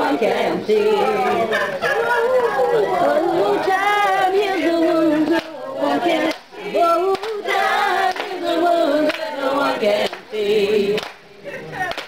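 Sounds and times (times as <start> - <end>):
group of people singing: 0.0 - 12.0.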